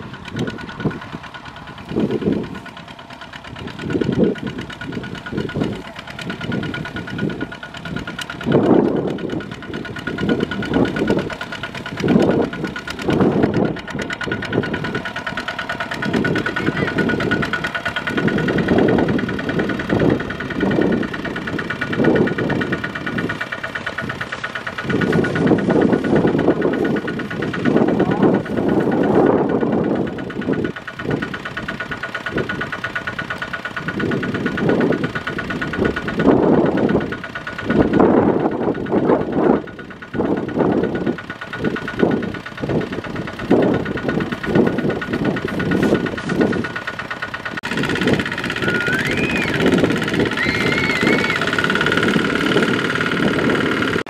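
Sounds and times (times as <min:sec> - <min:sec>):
diesel tiller engine chugging: 0:00.0 - 0:54.0.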